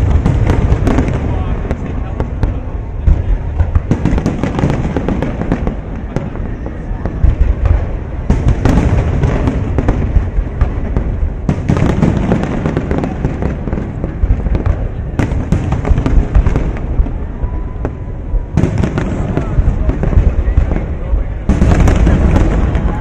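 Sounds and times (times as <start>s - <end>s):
continuous low rumble: 0.0s - 23.0s
fireworks bursting: 0.0s - 23.0s.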